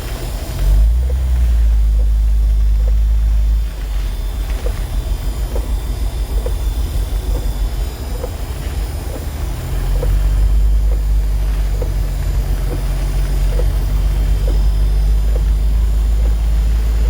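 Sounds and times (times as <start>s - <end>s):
car engine and road noise: 0.0s - 17.0s
faint ticking: 0.0s - 17.0s.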